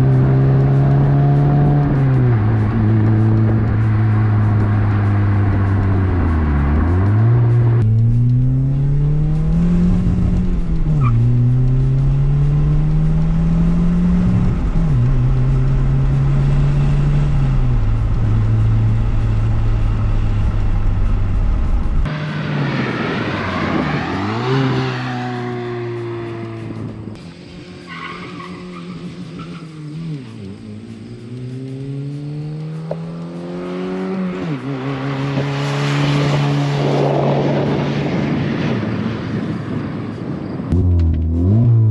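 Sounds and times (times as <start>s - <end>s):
car engine and exhaust accelerating: 0.0s - 41.9s.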